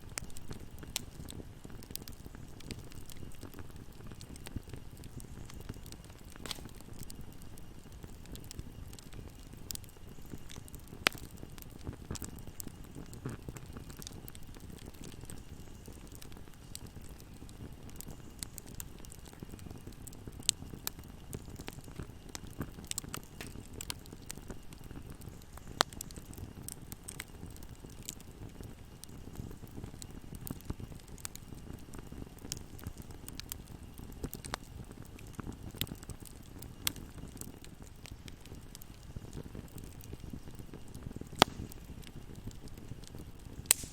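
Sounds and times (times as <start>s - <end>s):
sharp snaps of fire: 0.0s - 43.9s
wood fire crackling: 0.0s - 43.9s.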